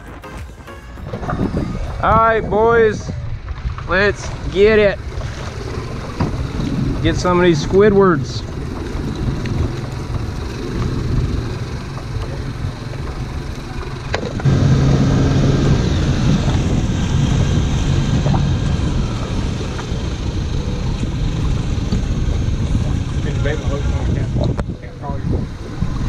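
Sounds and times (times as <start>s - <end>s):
water noise: 0.0s - 26.0s
wind: 0.0s - 26.0s
outboard motors humming: 0.9s - 26.0s.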